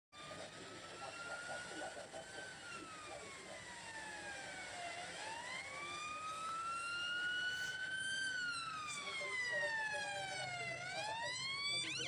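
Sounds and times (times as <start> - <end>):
police siren wailing: 0.2 - 12.0.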